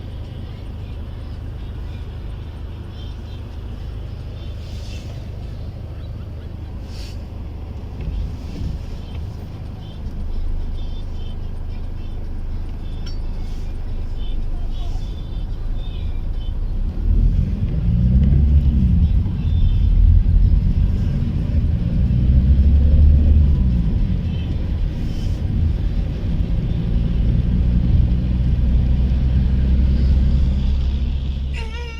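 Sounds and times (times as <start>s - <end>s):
car engine and road rumble: 0.0s - 31.9s.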